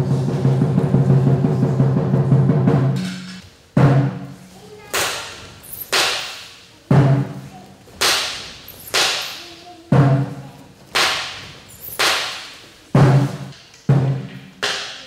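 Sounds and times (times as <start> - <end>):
drum beaten in steady cadence: 0.0 - 15.0.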